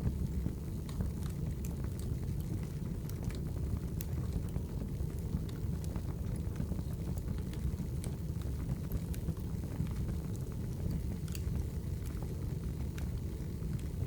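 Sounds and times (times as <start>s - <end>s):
fire crackles and pops: 0.0s - 14.0s
fire flames rumbling: 0.0s - 14.0s.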